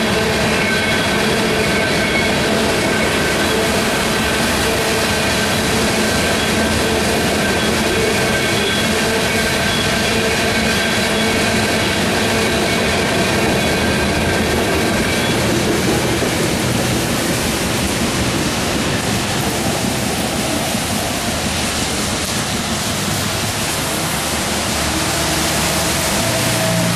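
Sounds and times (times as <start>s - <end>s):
freight train wheels rumbling: 0.0s - 26.9s.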